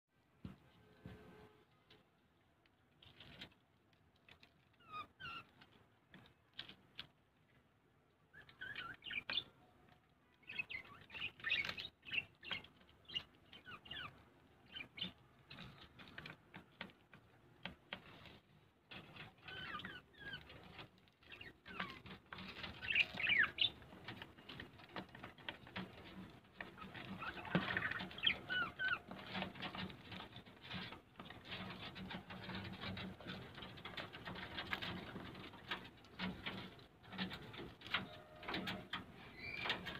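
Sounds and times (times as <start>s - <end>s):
small birds chirping: 4.2s - 39.9s.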